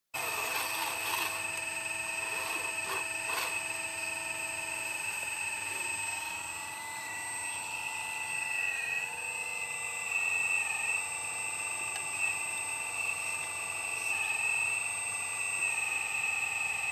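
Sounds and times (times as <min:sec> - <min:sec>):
model excavator motors whining: 0:00.1 - 0:16.9.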